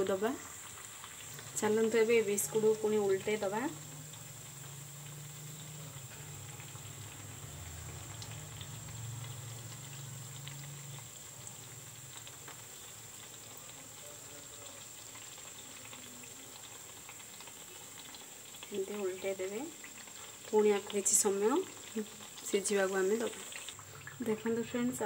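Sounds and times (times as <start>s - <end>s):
biscuits deep-frying in oil: 0.0s - 25.0s.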